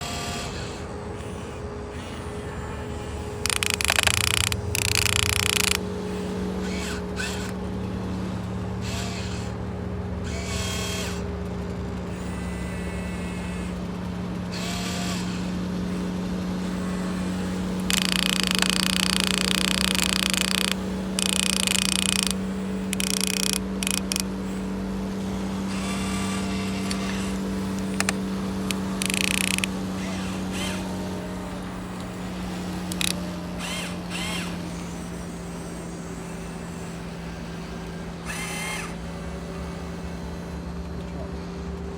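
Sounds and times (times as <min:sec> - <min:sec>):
toy excavator motors whining: 0:00.0 - 0:41.9
steady low hum: 0:00.6 - 0:11.2, 0:12.0 - 0:41.9.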